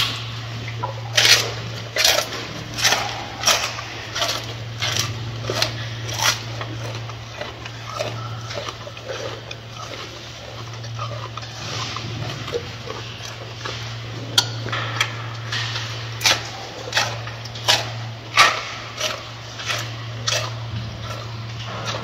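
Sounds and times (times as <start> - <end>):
gorilla crunching lettuce: 0.0 - 22.0
low hum: 0.0 - 22.0.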